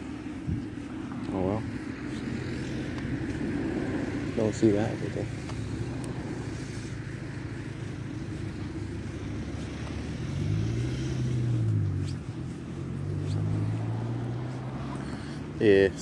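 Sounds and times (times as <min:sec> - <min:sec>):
car passing by: 0:00.0 - 0:16.0
traffic rumble: 0:00.0 - 0:16.0.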